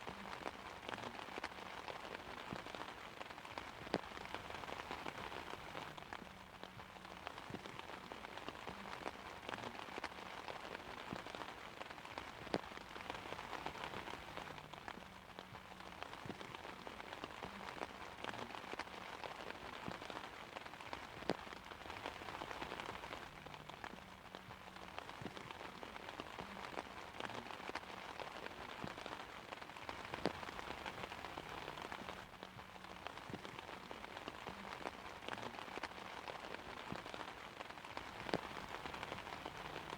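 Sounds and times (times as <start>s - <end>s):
rain hissing on an umbrella: 0.0s - 39.9s.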